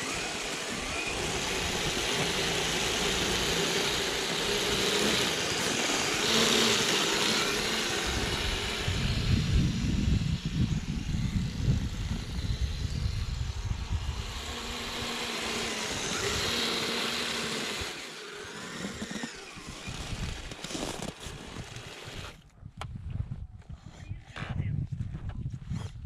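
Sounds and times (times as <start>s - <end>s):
toy snowcat tracks in snow: 0.0s - 22.5s.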